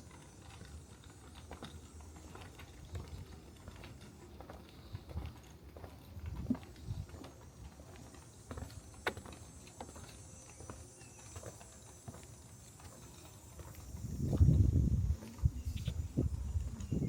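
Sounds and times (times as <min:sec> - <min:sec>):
footsteps on wooden boardwalk: 0:00.0 - 0:17.0.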